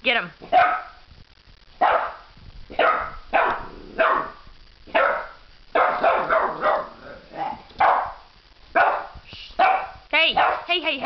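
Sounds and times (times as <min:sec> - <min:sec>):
puppy barking: 0:00.5 - 0:01.0, 0:01.8 - 0:10.7.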